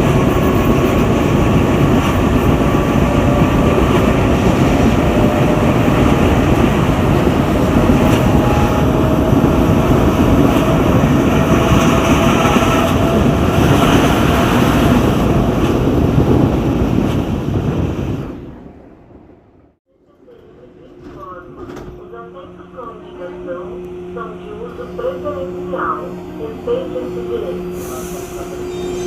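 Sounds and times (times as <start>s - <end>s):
train wheels rumbling on rail: 0.0s - 19.0s, 20.2s - 29.0s.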